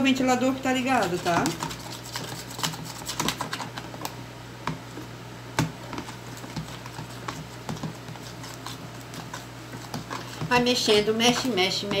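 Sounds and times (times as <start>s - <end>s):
electric fan hum: 0.0s - 12.0s
spoon stirring slime in plastic tub: 0.7s - 12.0s.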